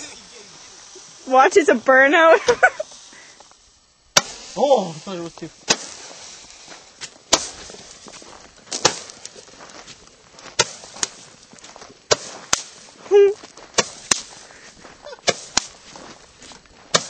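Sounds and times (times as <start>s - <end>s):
fireworks bangs and pops: 2.4s - 17.0s.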